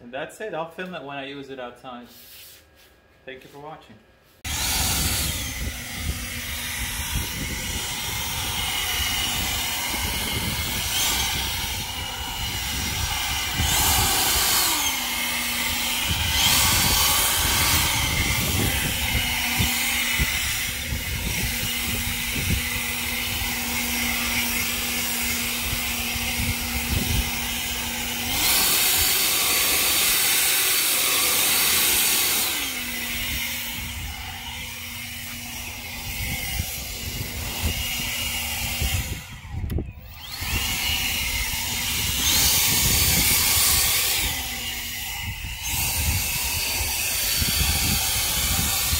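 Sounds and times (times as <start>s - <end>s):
leaf blower running: 4.4s - 48.9s.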